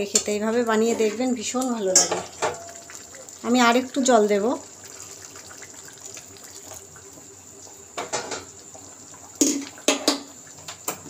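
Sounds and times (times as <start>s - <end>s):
water pouring into a pan: 1.9s - 11.0s.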